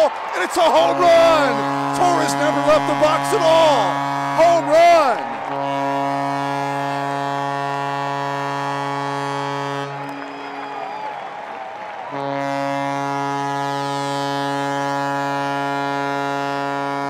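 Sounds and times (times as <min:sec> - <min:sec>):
crowd cheering and clapping: 0:00.0 - 0:14.7
low horn blasts: 0:00.1 - 0:17.0.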